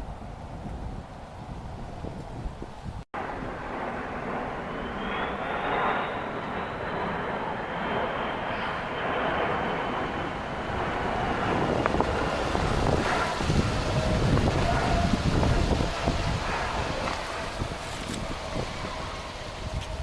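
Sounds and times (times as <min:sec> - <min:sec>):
jet planes flying by: 0:00.0 - 0:20.0.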